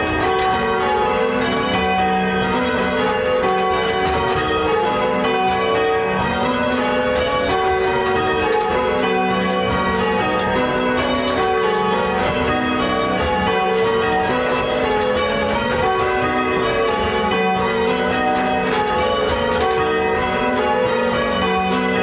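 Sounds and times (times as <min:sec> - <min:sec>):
church bells change ringing: 0:00.0 - 0:22.0.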